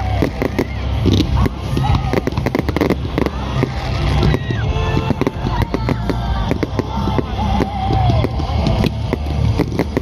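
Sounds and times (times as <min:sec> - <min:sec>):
fireworks cracking and banging: 0:00.0 - 0:10.0.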